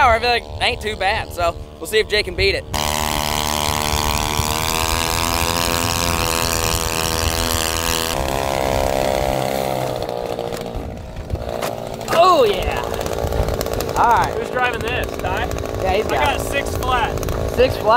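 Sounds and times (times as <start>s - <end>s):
outboard motor running: 0.0s - 17.9s.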